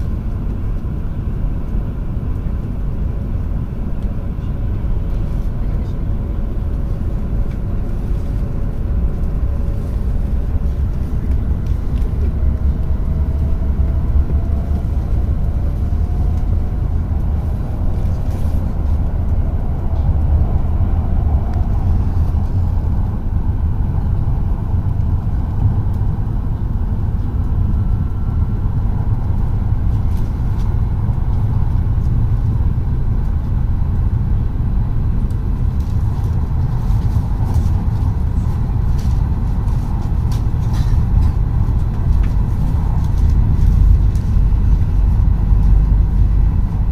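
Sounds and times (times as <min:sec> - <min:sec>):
train rumble inside cabin: 0:00.0 - 0:46.9.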